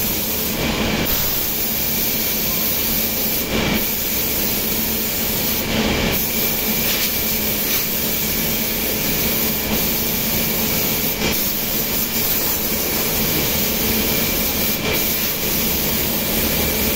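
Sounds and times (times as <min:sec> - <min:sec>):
bursts of hiss: 0:00.4 - 0:16.9.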